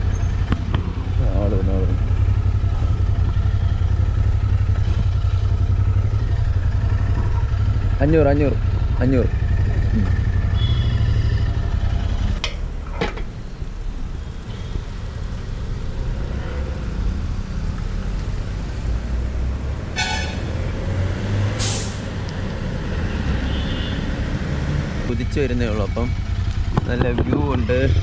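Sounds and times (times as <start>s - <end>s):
vehicle engines rumbling: 0.0s - 28.0s.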